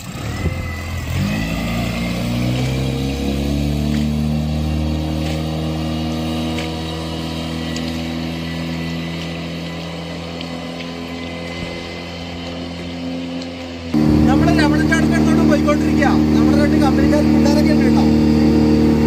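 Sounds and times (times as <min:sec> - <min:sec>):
outboard motor revving: 0:00.0 - 0:19.0.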